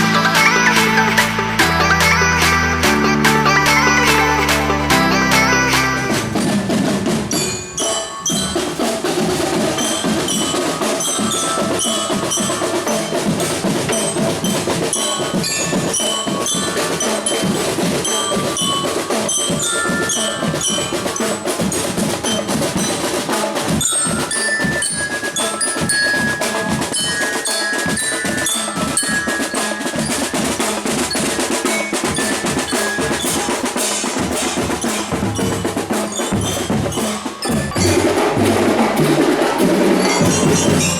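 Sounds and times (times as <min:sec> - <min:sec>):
glockenspiel melody: 0:00.0 - 0:40.9
marching drum band playing: 0:00.0 - 0:40.9.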